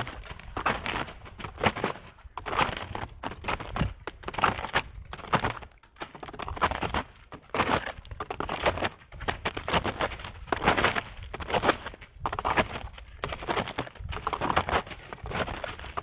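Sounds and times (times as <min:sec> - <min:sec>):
snowshoe footsteps crunching snow: 0:00.0 - 0:16.0.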